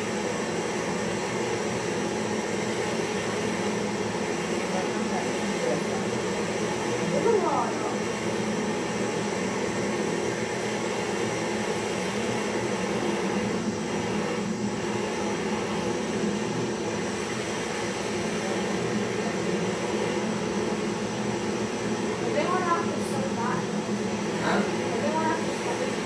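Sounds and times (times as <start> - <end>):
gas torch hissing: 0.0 - 26.0.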